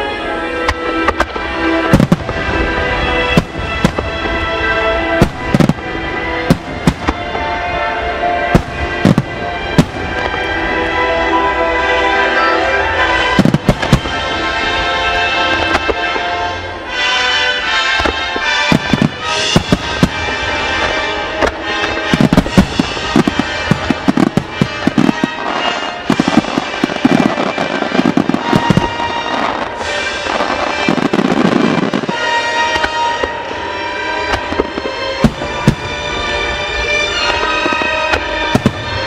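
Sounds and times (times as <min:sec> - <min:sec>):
fireworks bursting: 0:00.0 - 0:39.0
music: 0:00.0 - 0:39.0.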